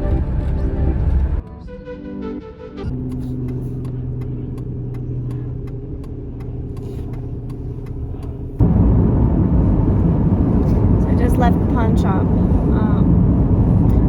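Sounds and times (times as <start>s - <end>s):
car engine and road hum: 0.0s - 1.4s, 2.9s - 14.0s
rough road rumble: 0.0s - 1.4s, 2.9s - 14.0s.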